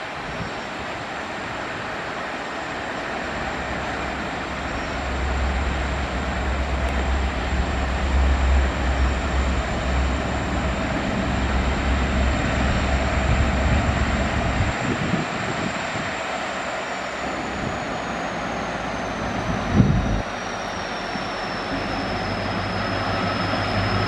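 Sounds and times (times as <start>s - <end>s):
approaching train rumble: 0.0s - 24.0s.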